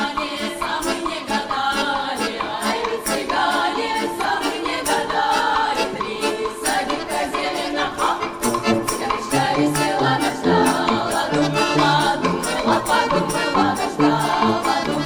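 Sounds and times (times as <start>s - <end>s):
folk choir singing: 0.0s - 15.0s.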